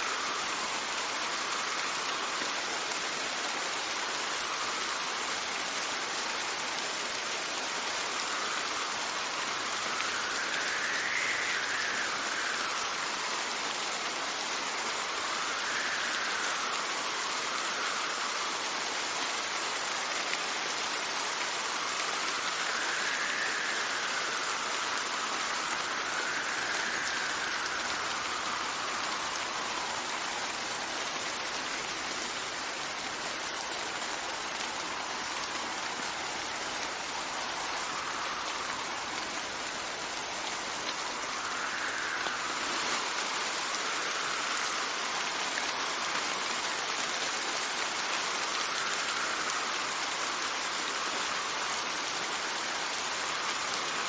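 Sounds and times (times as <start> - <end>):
steady rain falling: 0.0 - 54.0
wind gusts: 0.0 - 54.0.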